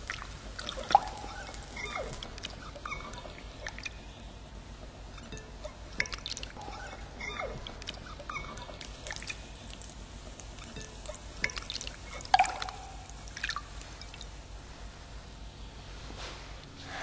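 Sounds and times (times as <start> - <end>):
water dripping and trickling: 0.0 - 14.7.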